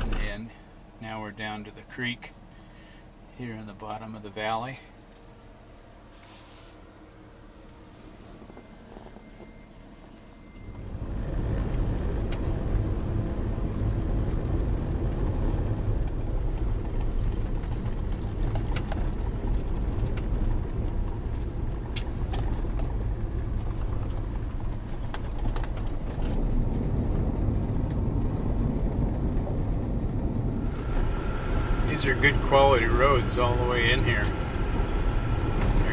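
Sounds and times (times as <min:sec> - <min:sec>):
tyres and engine rumble on gravel: 0:00.0 - 0:35.9.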